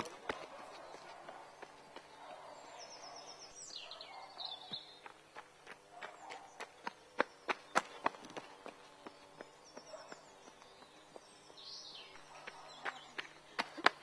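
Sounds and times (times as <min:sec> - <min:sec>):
running footsteps on stony trail: 0:00.0 - 0:02.2, 0:04.7 - 0:14.0
birds chirping faintly: 0:00.0 - 0:14.0.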